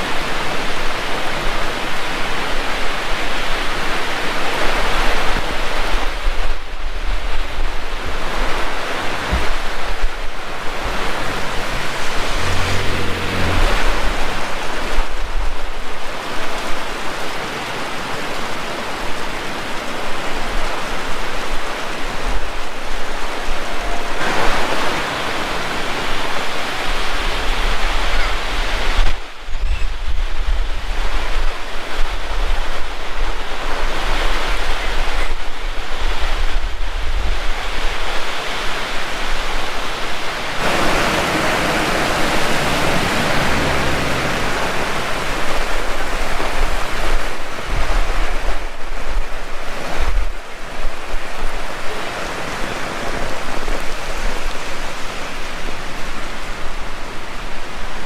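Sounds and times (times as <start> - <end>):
heavy rain pouring: 0.0 - 29.4, 30.6 - 58.0
wind buffeting microphone: 0.0 - 58.0.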